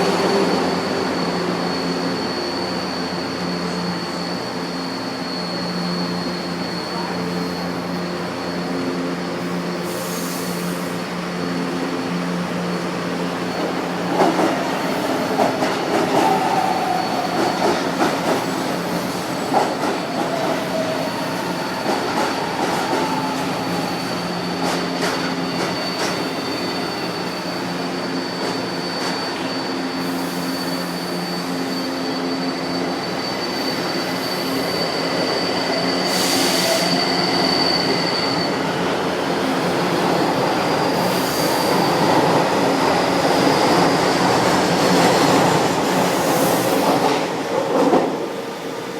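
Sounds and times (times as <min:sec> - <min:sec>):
electric train hum with high whine: 0:00.0 - 0:48.9
train wheels squealing: 0:00.0 - 0:48.9.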